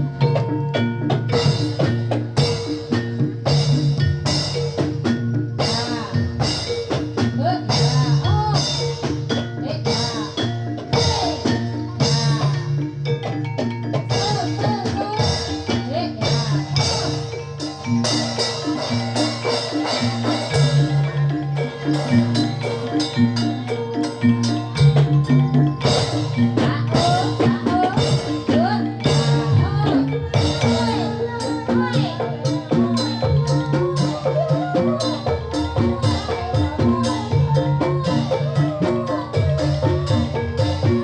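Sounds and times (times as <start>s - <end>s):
drums and metallophones: 0.0s - 41.0s
gamelan music: 0.0s - 41.0s.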